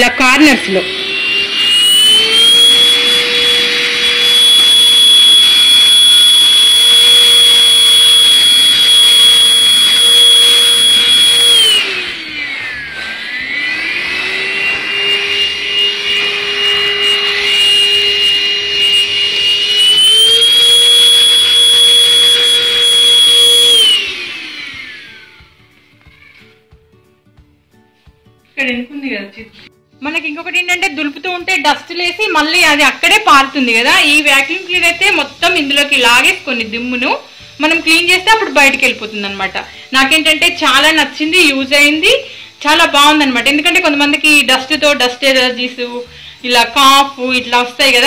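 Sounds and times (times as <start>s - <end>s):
handheld vacuum cleaner whining: 0.0s - 26.7s, 31.5s - 48.0s.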